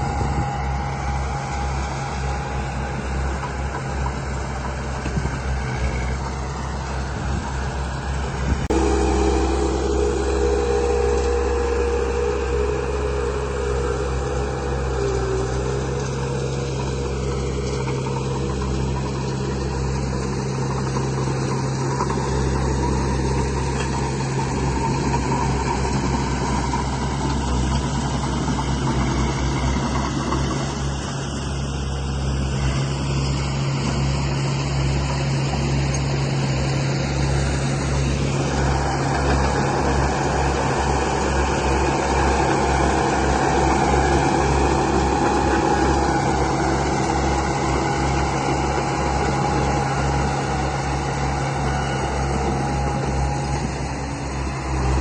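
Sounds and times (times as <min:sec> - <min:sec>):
model machine motors humming: 0:00.0 - 0:27.3, 0:37.1 - 0:55.0
higher motor whine: 0:00.0 - 0:55.0.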